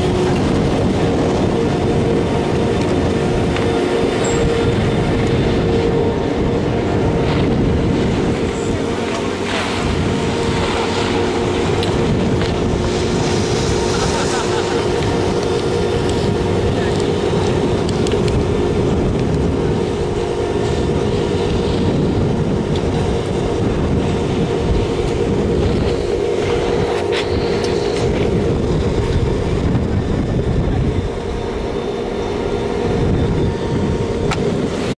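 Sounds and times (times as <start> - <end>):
machinery humming and rumbling: 0.0 - 35.0.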